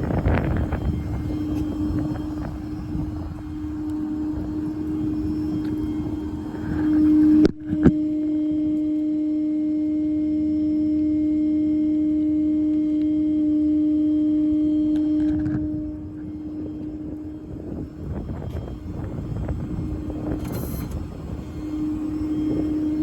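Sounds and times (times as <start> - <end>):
hydraulic system whining: 0.0 - 23.0
low rough running noise: 0.0 - 23.0.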